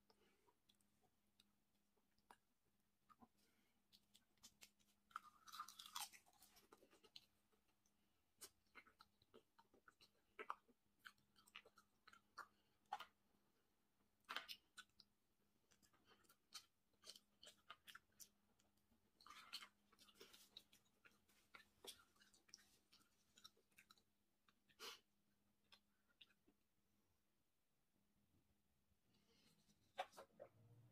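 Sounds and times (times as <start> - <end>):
person chewing: 0.1 - 26.6.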